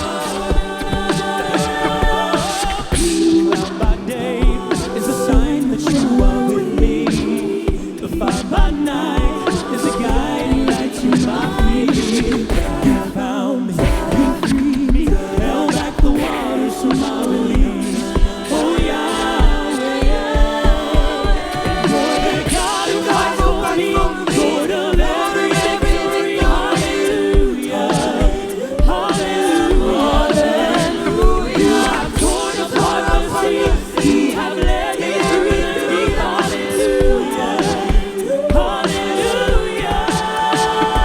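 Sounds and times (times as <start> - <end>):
low thumping beat: 0.0 - 13.2, 13.8 - 41.0
voices singing in harmony: 0.0 - 41.0.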